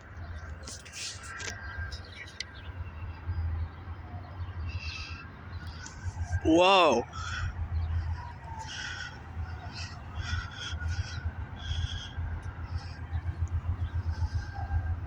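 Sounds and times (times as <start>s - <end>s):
birds calling: 0.0s - 15.0s
low steady rumble: 1.2s - 15.0s.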